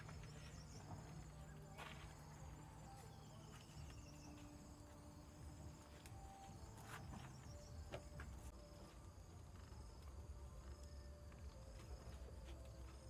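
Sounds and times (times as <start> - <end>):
insects chirring: 0.0 - 13.0
soft footsteps: 0.0 - 13.0.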